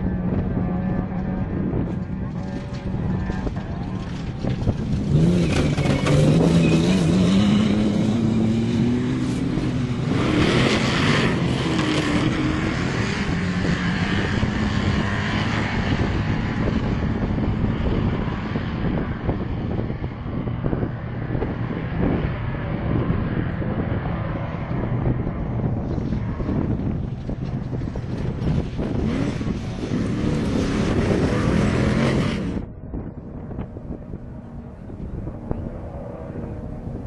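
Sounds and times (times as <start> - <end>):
loud rushing pass-by: 0.0 - 37.0
race vehicle engine under power: 0.0 - 37.0.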